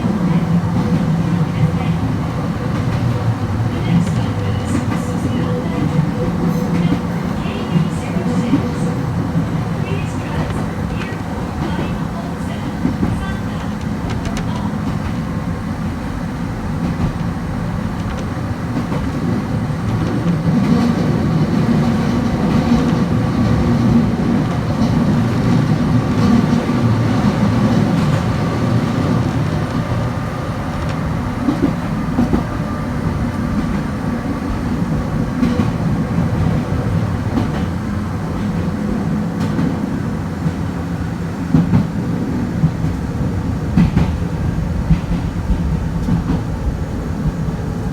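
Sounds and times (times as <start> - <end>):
train rumbling on track: 0.0 - 47.9.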